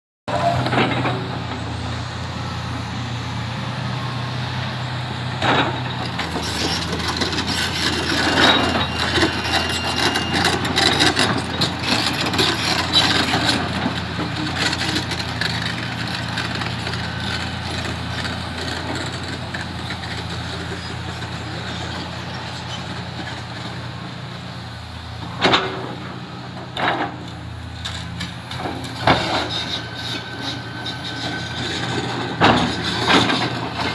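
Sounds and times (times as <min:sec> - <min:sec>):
excavator diesel engine running: 0:00.3 - 0:33.9.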